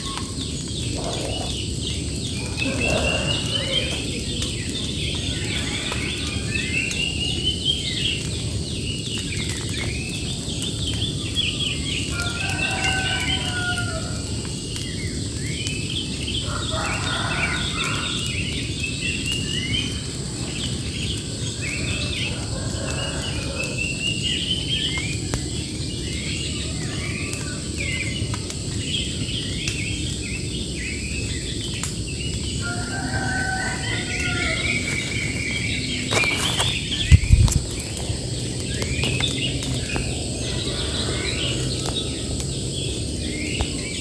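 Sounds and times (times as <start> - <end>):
birds chirping and singing: 0.0 - 44.0.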